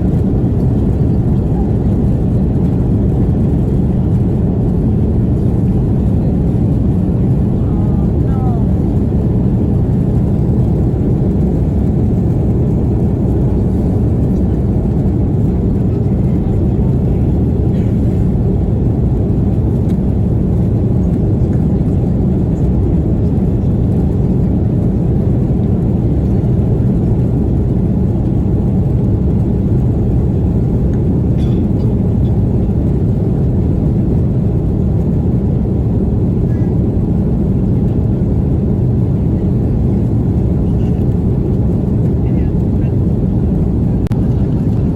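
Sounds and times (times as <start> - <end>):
jet engine rumble in cabin: 0.0 - 44.9.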